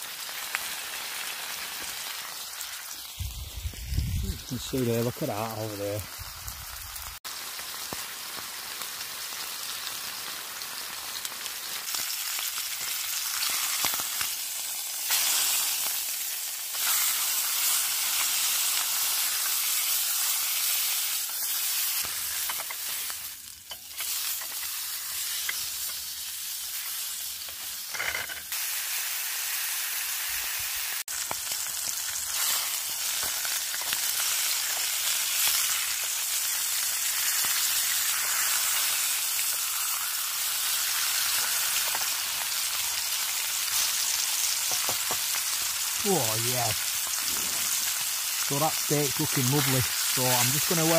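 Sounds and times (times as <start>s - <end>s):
steak sizzling in a pan: 0.0s - 50.9s.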